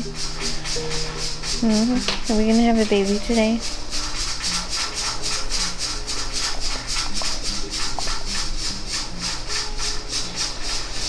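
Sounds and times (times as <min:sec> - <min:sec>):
dog breathing rapidly: 0:00.0 - 0:11.0.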